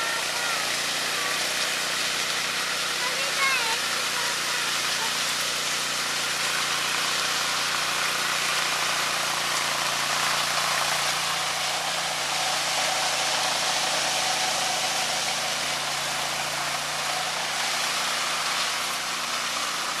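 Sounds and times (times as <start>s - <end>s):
power trowel engine hum: 0.0s - 20.0s
trowel blades hissing on concrete: 0.0s - 20.0s.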